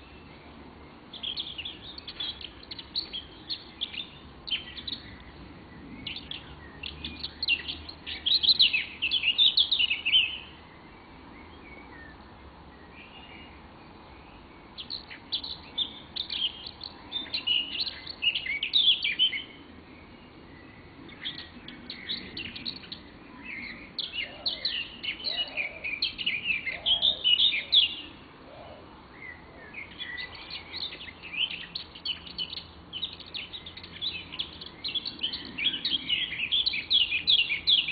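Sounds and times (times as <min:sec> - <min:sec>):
birds chirping and twittering: 0:00.0 - 0:37.9.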